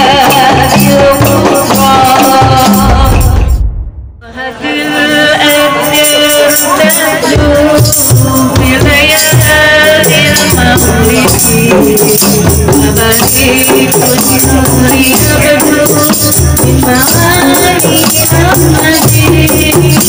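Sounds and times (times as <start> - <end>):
woman singing into a microphone: 0.0 - 3.6, 4.2 - 20.0
frame drums beating: 0.0 - 4.3, 7.2 - 20.0.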